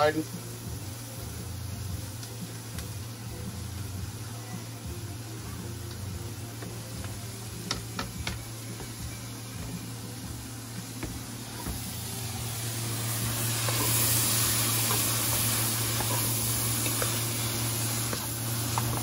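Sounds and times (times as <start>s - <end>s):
vegetables sizzling in fat: 0.0s - 19.0s.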